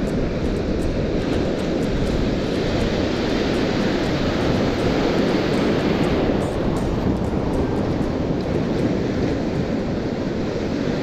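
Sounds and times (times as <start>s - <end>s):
breaking surf: 0.0s - 11.0s
wind buffeting microphone: 0.0s - 11.0s.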